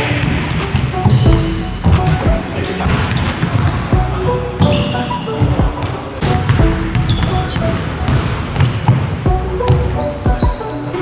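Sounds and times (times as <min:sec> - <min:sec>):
music with heavy beat: 0:00.0 - 0:11.0
basketball bouncing on hardwood floor: 0:00.2 - 0:04.8, 0:05.4 - 0:10.6.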